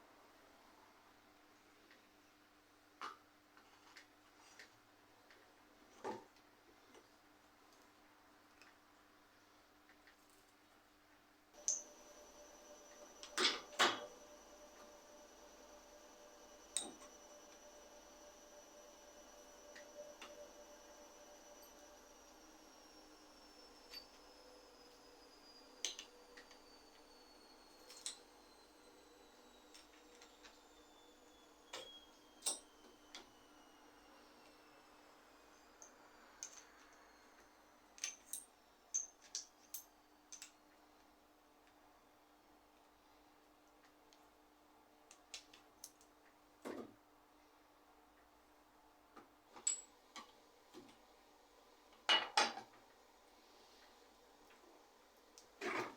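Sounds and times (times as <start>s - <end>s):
faint electrical hum: 0.0s - 55.9s.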